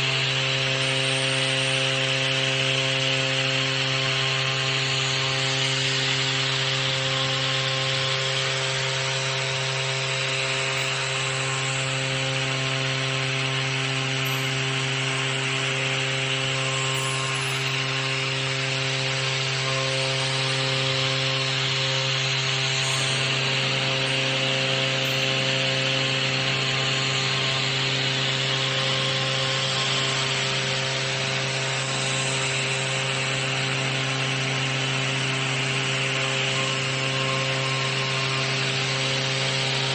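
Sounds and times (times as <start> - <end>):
cutter milling a plate: 0.0 - 39.9
router spindle humming: 0.0 - 39.9.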